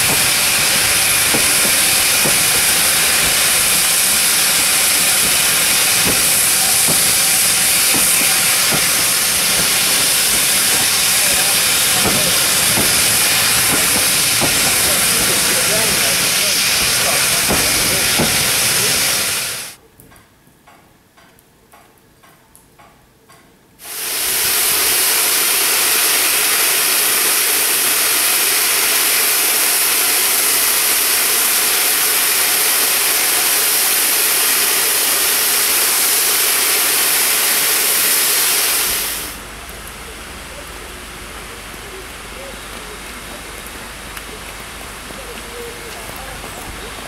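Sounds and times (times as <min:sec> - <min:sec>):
steam locomotive hissing steam: 0:00.0 - 0:19.8, 0:23.8 - 0:47.0.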